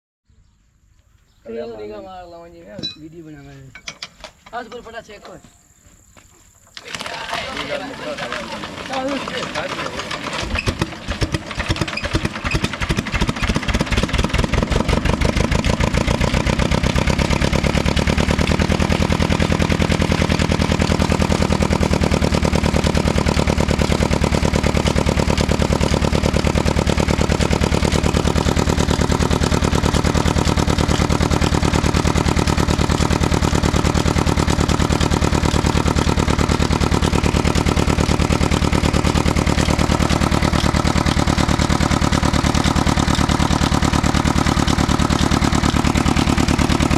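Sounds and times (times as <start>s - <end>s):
diesel engine starting and running: 6.6s - 46.9s.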